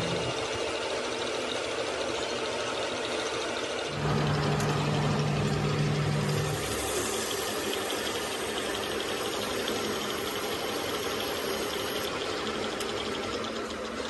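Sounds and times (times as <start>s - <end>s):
machinery humming with rattle: 0.0s - 14.0s.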